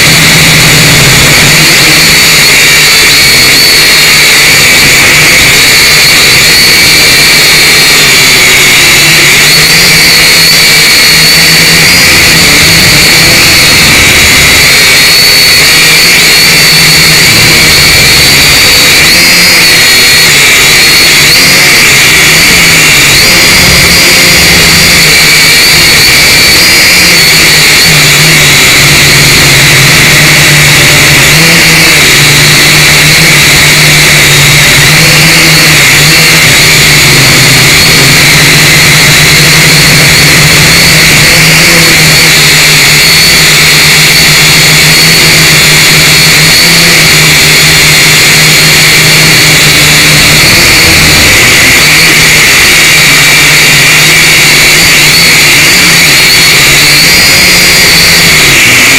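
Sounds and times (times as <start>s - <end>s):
drone motors whining: 0.0s - 58.9s.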